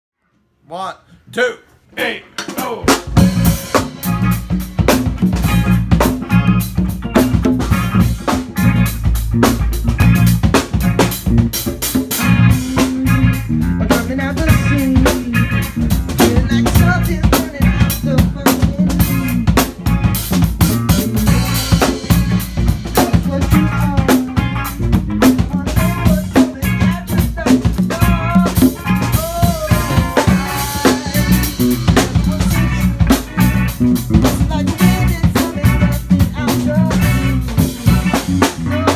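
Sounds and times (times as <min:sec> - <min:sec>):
drum kit beat: 0:01.4 - 0:38.9
strummed electric guitar: 0:02.4 - 0:38.9.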